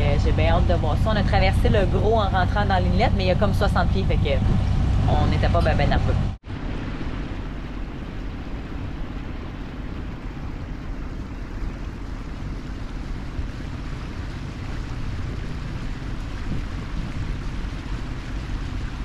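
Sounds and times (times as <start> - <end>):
boat engine hum: 0.0 - 19.0
water rushing past hull: 0.0 - 19.0
wind noise on microphone: 0.0 - 19.0.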